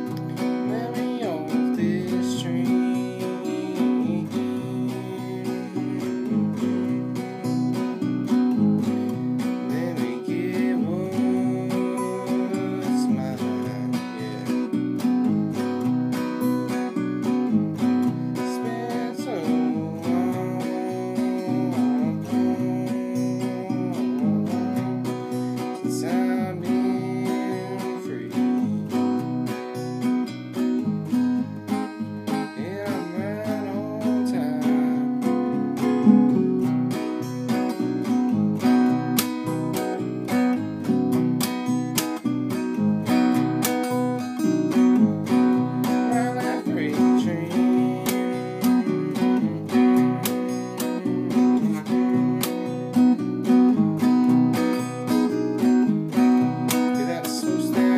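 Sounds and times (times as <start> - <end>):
man singing: 0.0 - 30.0, 31.1 - 36.1, 43.0 - 57.9
acoustic guitar strumming: 0.0 - 57.9.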